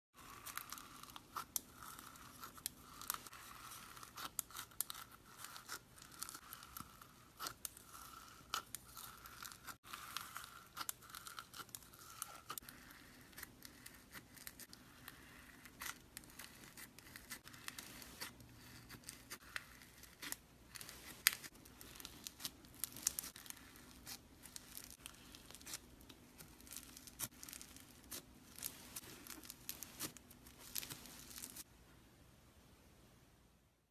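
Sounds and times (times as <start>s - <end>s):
slime crackling and tearing: 0.2s - 31.7s.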